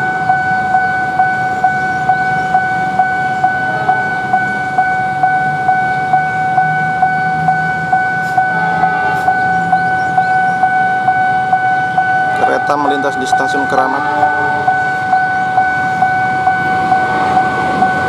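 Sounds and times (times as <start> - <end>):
diesel locomotive hum: 0.0 - 18.0
level crossing alarm ringing: 0.0 - 18.0.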